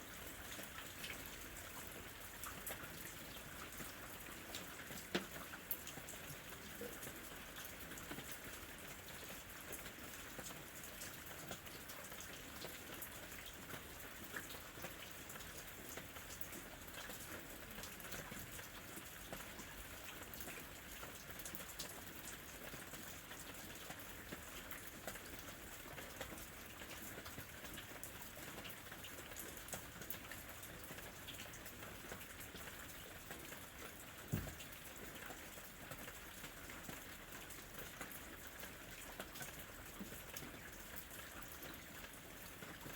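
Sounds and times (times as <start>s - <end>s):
rain drops pattering: 0.0s - 42.9s.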